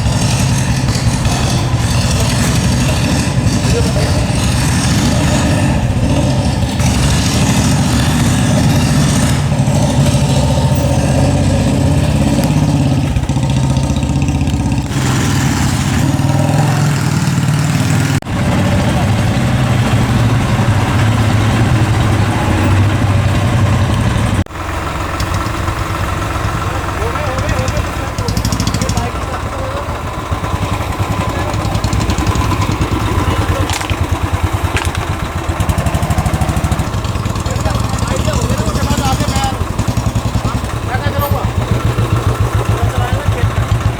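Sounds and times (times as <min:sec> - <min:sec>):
vehicle engine running low: 0:00.0 - 0:43.9.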